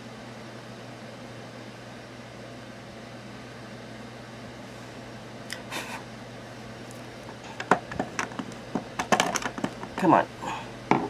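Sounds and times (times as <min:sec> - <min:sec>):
fan hum and air noise: 0:00.0 - 0:11.0.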